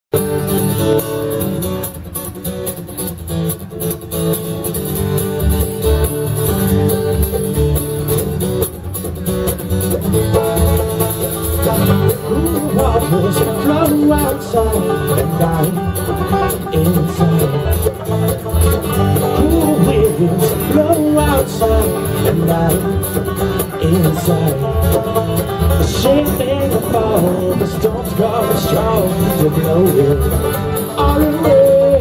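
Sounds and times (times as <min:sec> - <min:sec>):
bluegrass band playing: 0:00.1 - 0:32.0.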